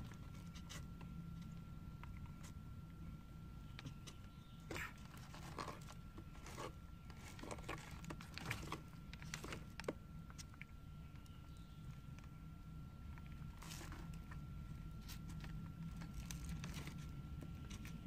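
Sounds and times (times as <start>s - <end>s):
faint high whine: 0.0s - 18.0s
tortoises crunching carrot: 0.0s - 18.0s.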